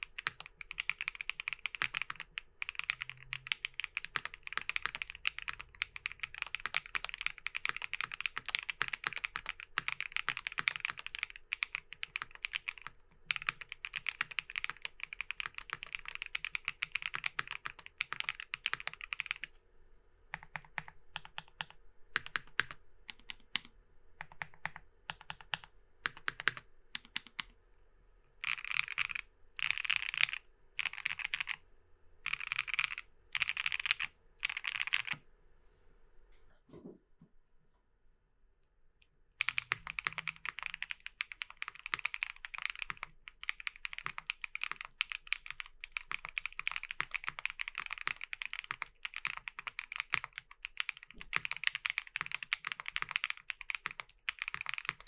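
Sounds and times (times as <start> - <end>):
mechanical keyboard typing: 0.0 - 19.5, 20.4 - 27.5, 28.4 - 31.6, 32.2 - 35.2, 39.4 - 55.0.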